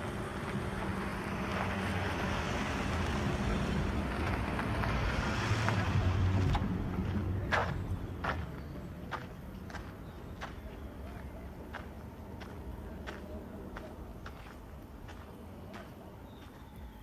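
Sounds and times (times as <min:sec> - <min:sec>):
vehicle passing by: 0:00.0 - 0:15.2.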